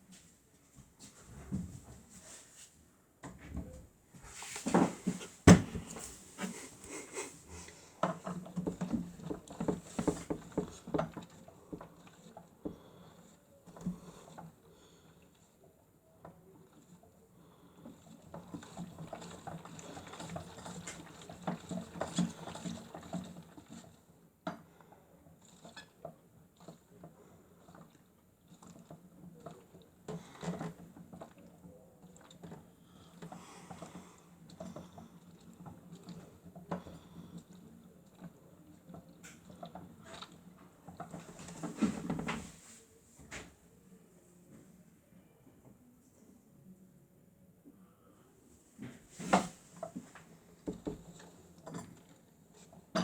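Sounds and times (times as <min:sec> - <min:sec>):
water and laundry sloshing: 0:03.4 - 0:15.6, 0:16.6 - 0:43.5, 0:48.6 - 0:53.0.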